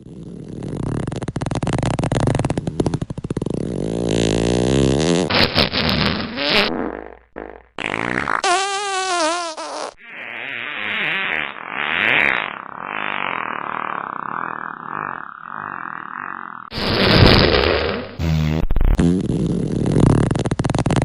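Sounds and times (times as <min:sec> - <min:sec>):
fart sounds: 0:00.0 - 0:21.0.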